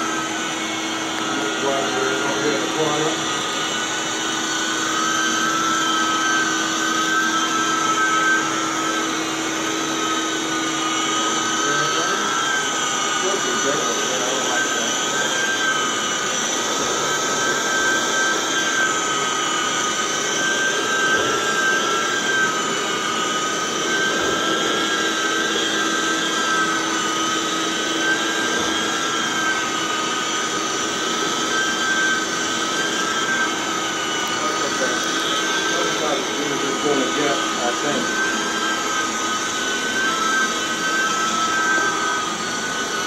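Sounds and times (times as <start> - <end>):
carpet cleaner motor whine: 0.0 - 43.0
cleaning head scrubbing carpet: 0.0 - 43.0.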